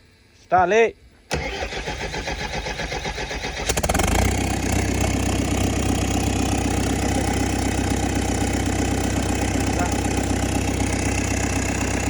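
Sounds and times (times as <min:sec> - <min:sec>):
diesel engine cranking and running: 0:01.3 - 0:12.0.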